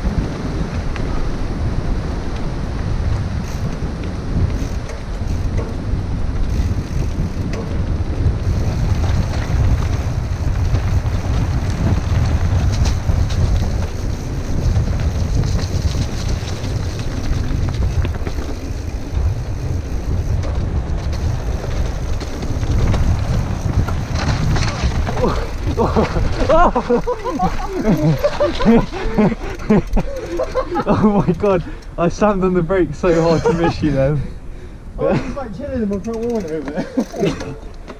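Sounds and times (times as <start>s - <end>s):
bike rattling over bumps: 0.0s - 34.2s, 35.1s - 37.9s
wind buffeting microphone: 0.0s - 37.9s
tyres crunching on dirt: 2.4s - 34.1s.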